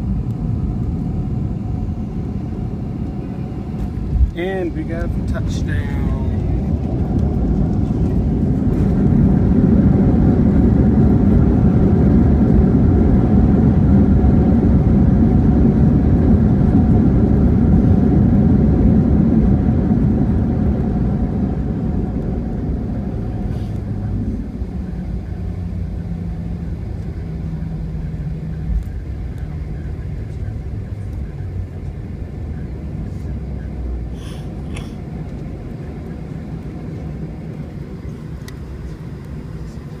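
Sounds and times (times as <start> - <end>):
airliner engine rumble in cabin: 0.0 - 40.0.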